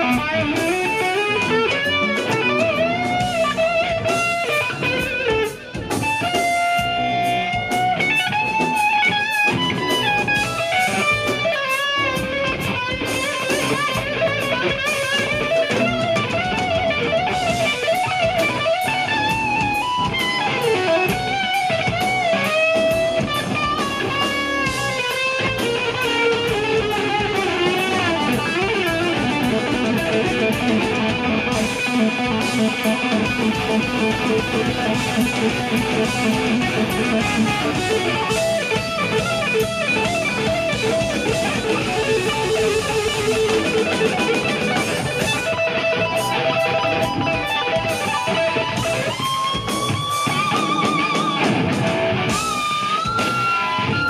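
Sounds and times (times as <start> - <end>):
bass guitar: 0.0 - 54.0
drums: 0.0 - 54.0
electric guitar lead: 0.0 - 54.0.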